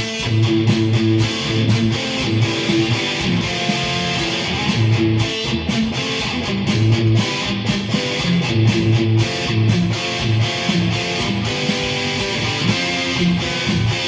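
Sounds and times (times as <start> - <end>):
overdriven electric guitar riff: 0.0 - 14.0.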